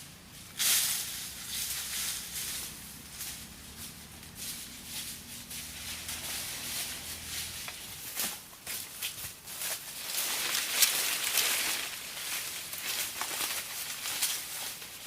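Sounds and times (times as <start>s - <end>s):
rustling and crackling: 0.2s - 15.0s.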